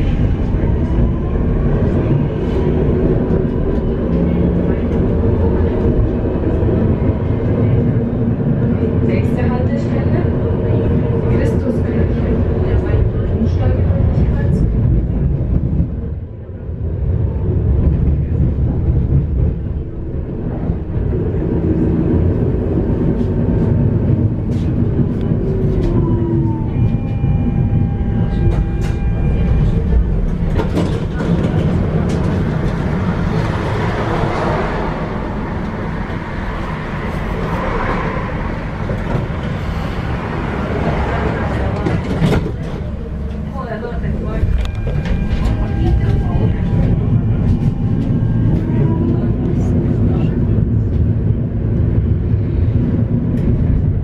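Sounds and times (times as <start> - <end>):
tram rumbling along rails: 0.0 - 54.0.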